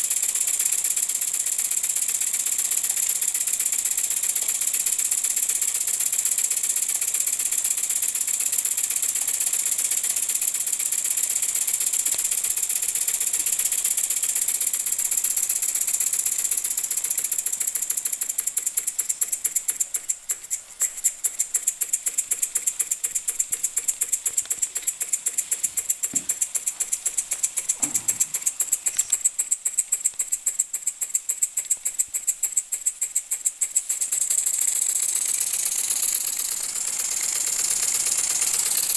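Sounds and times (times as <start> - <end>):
toy steam engine chattering: 0.0 - 38.9.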